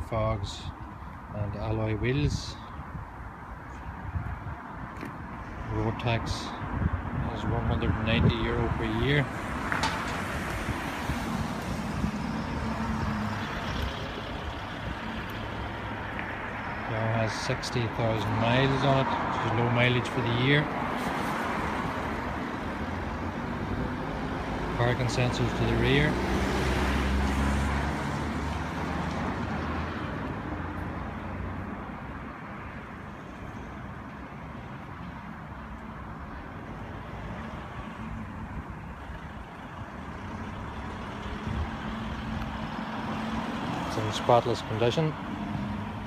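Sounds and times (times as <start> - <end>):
road vehicle running noise: 0.0 - 46.0.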